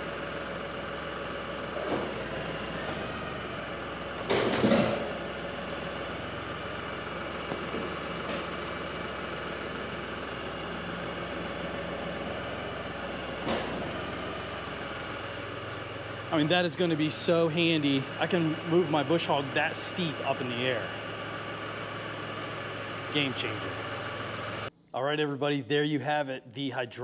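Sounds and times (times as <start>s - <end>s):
tractor diesel engine idling: 0.0s - 24.8s.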